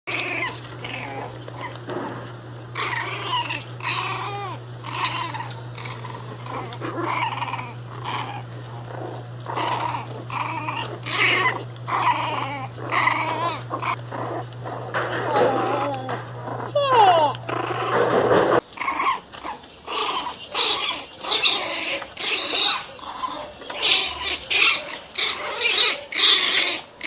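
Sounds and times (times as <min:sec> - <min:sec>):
dogs barking and growling: 0:00.0 - 0:27.0
steady low hum: 0:00.1 - 0:27.0.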